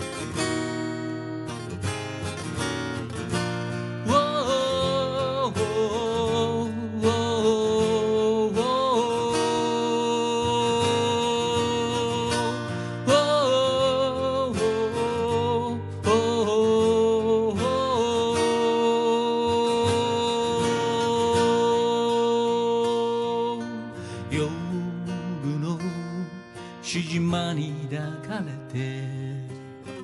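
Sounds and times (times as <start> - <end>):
acoustic guitar strumming: 0.0 - 30.0
man singing: 4.0 - 30.0.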